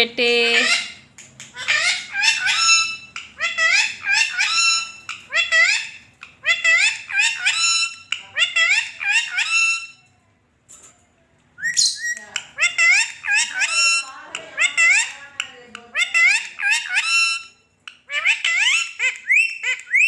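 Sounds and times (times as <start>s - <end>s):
parrot calling: 0.3s - 10.1s, 11.6s - 20.0s.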